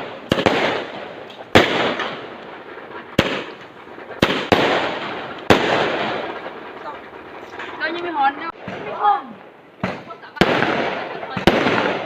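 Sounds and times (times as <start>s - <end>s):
firework hiss: 0.0s - 12.0s
fireworks banging: 0.0s - 12.0s.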